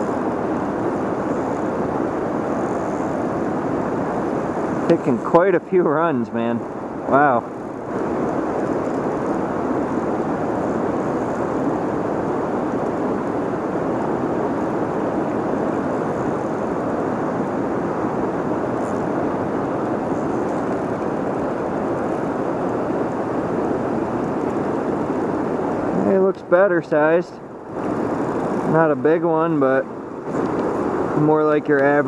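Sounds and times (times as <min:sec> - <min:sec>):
floodwater rushing over dam: 0:00.0 - 0:32.0.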